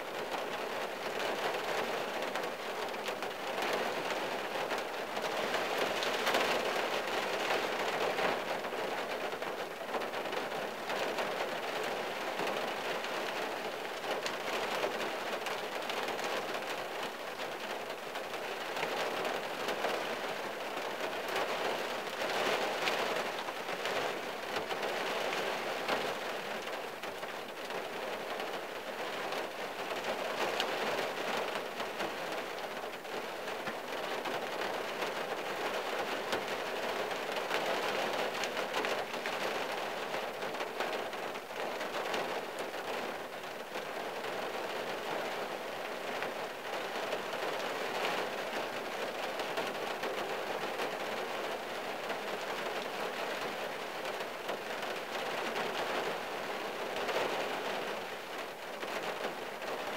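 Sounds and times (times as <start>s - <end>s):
rain on car roof: 0.0s - 59.9s.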